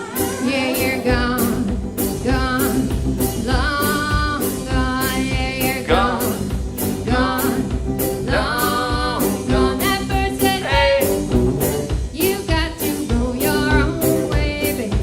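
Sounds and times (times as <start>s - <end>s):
live band music: 0.0s - 15.0s
person singing: 0.0s - 15.0s
drum hits: 1.0s - 15.0s.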